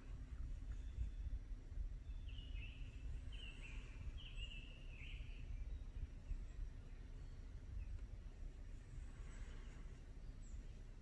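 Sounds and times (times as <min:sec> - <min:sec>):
bird chirping: 0:00.0 - 0:11.0
faint outdoor rumble: 0:00.0 - 0:11.0.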